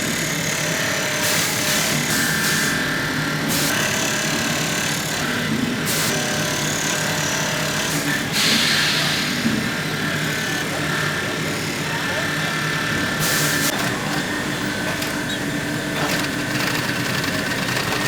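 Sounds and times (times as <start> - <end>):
workshop machinery running: 0.0 - 18.0.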